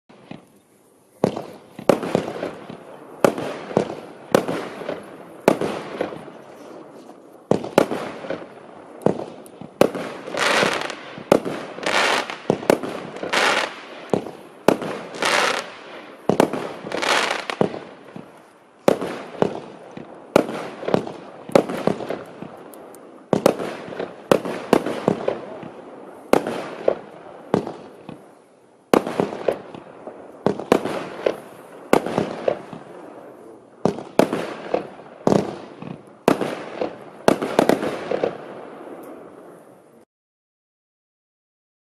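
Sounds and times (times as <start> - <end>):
fireworks crackling and hissing: 0.1 - 40.0
firework launch bangs and bursts: 1.2 - 6.4, 7.5 - 22.6, 23.3 - 28.3, 28.9 - 39.3.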